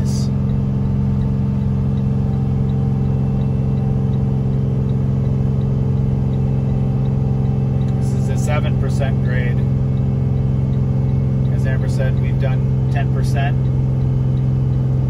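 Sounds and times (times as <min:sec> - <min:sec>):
diesel engine droning: 0:00.0 - 0:15.0
hazard flasher ticking: 0:00.0 - 0:15.0
road noise: 0:00.0 - 0:15.0.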